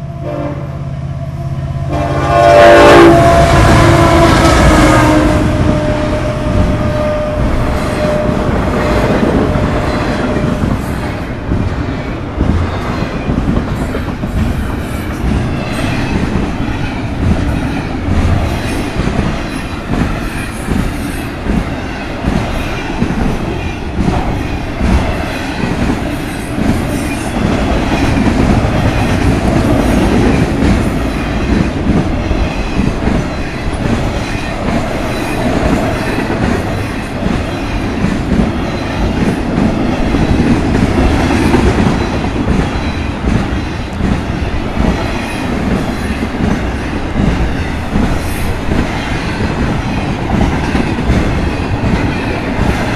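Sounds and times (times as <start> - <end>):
train rumble: 0.0 - 52.9
train wheels clacking over rail joints: 5.4 - 52.9.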